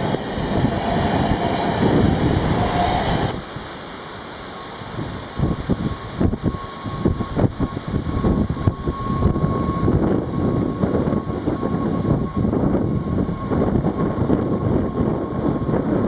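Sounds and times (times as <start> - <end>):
train wheels rumbling on rail: 0.0 - 3.4, 4.9 - 16.0.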